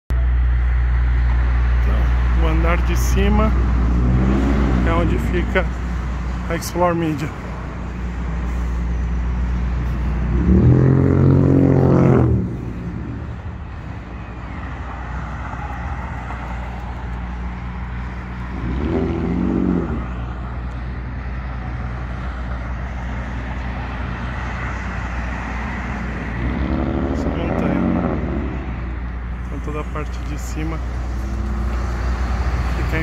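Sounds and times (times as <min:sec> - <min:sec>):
low hum of road traffic: 0:00.1 - 0:33.0
vehicle passing by: 0:00.7 - 0:33.0.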